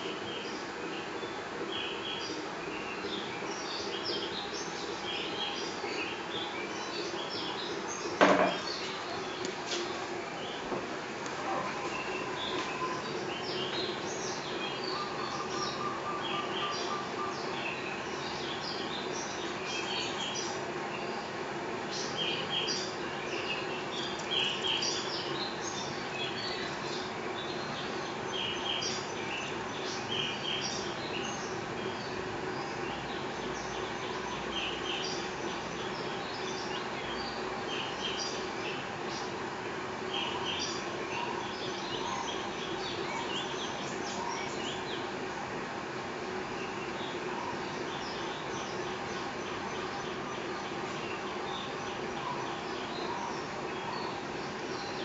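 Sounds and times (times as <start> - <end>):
ceiling fan hum and whoosh: 0.0 - 55.0
small birds chirping: 0.0 - 55.0.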